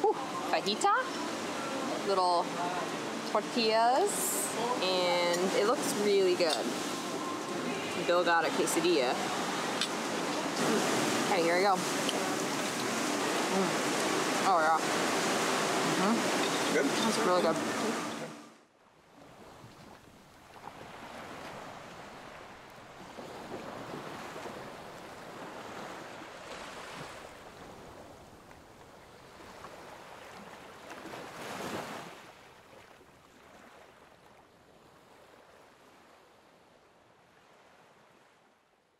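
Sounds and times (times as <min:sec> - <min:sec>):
ocean surf washing: 0:00.0 - 0:32.8.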